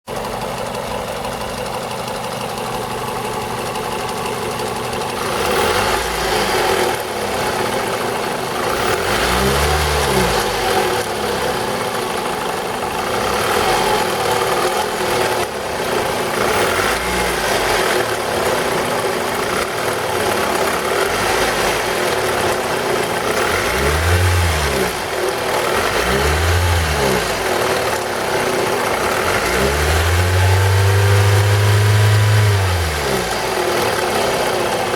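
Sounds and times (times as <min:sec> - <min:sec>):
engine revving: 0:05.2 - 0:34.9.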